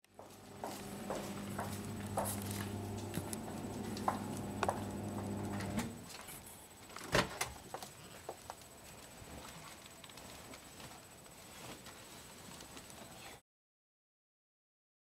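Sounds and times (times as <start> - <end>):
low electrical hum: 0.1 - 13.3.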